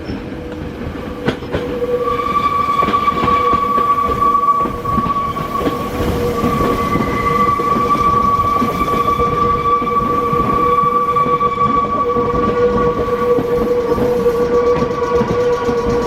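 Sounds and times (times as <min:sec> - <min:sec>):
electric train rumbling on tracks: 0:00.0 - 0:16.0
high-pitched wheel squeal: 0:01.6 - 0:16.0.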